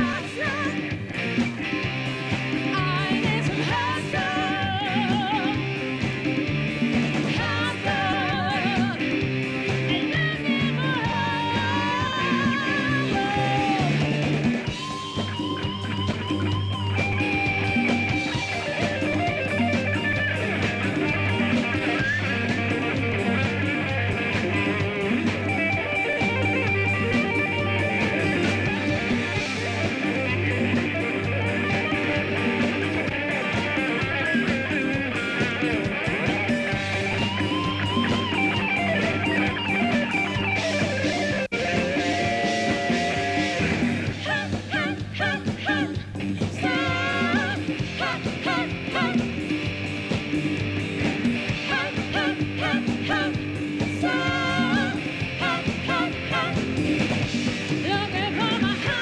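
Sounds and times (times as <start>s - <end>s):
drum kit: 0.0s - 59.0s
electric guitar: 0.0s - 59.0s
live band playing disco: 0.0s - 59.0s.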